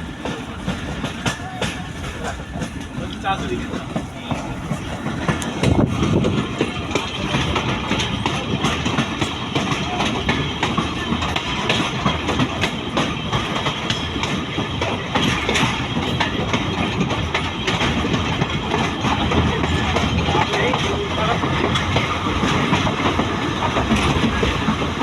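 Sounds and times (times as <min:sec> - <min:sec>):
train rumbling and rattling: 0:00.0 - 0:25.0
wheels clicking over rail joints: 0:00.0 - 0:25.0.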